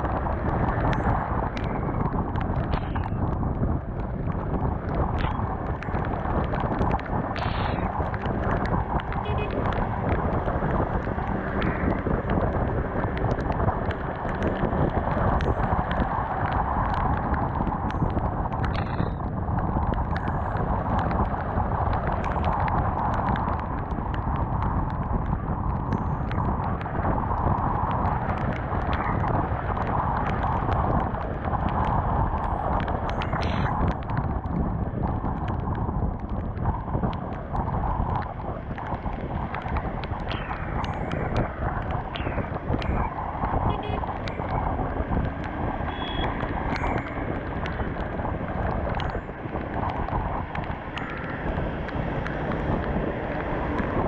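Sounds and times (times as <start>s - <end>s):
sharp ticks: 0.0s - 54.0s
tyres on wet road: 0.0s - 54.0s
wind buffeting microphone: 0.0s - 54.0s.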